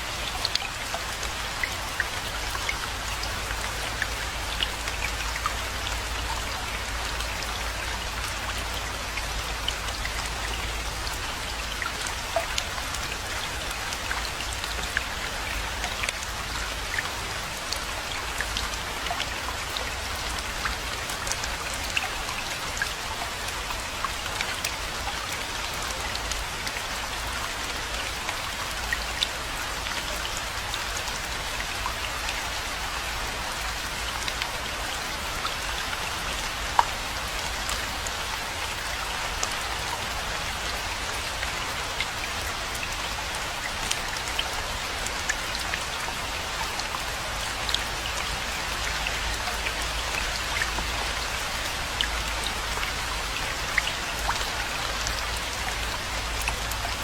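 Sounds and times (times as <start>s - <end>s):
raindrops clicking on surfaces: 0.0s - 57.0s
steady rain falling: 0.0s - 57.0s.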